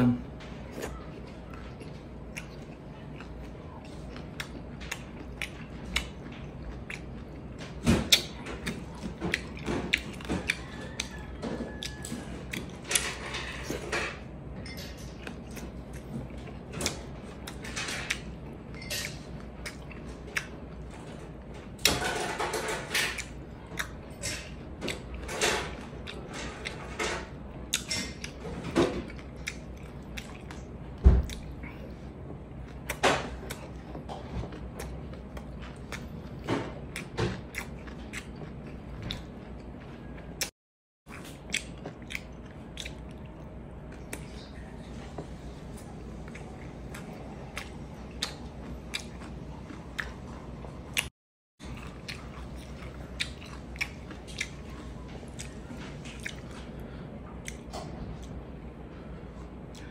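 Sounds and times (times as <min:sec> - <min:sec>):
person chewing: 0:00.6 - 0:13.9, 0:15.1 - 0:21.4, 0:23.1 - 0:27.0, 0:27.7 - 0:40.5, 0:41.1 - 0:59.9.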